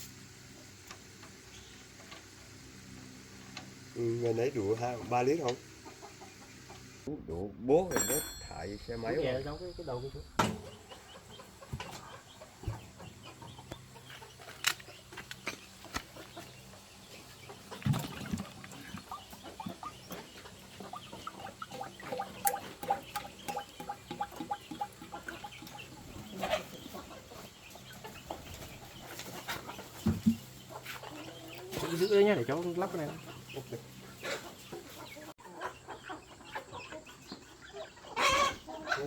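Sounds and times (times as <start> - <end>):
chickens clucking: 0.0 - 7.2, 9.1 - 39.0.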